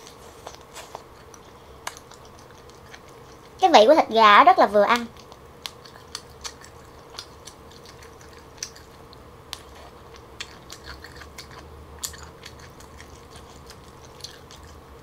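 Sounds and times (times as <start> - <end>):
chewing with wet clicks: 0.0 - 3.6, 4.9 - 15.0.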